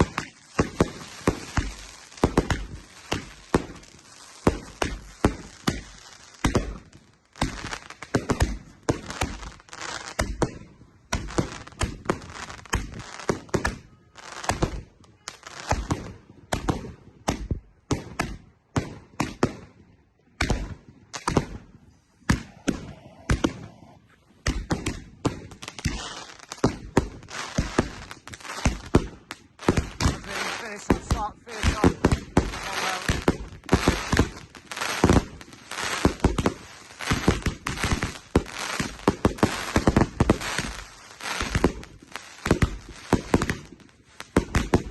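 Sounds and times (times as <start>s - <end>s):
fireworks bangs and cracks: 0.0s - 23.6s, 24.4s - 44.9s.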